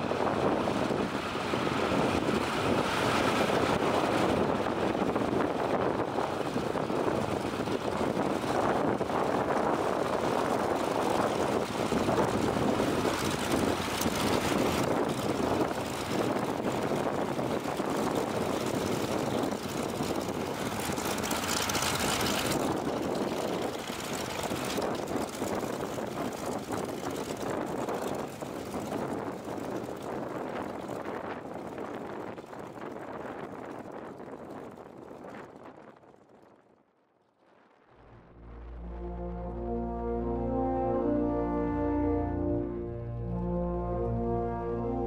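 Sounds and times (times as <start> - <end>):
propeller plane engine running: 0.0 - 36.8, 38.0 - 45.0.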